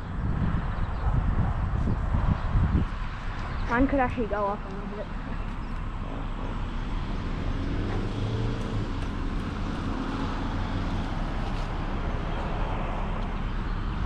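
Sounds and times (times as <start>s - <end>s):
wind rumble on microphone: 0.0s - 14.0s
faint vehicle engine: 1.8s - 14.0s.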